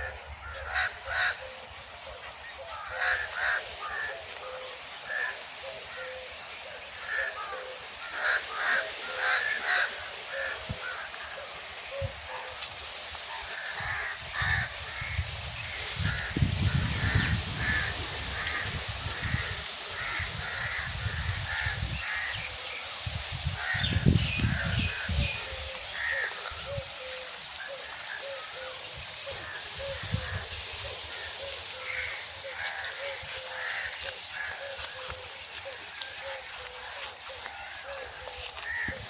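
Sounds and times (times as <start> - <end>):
crows cawing: 0.0 - 1.8, 2.4 - 12.6, 13.2 - 39.0
outdoor background hiss: 0.0 - 39.0.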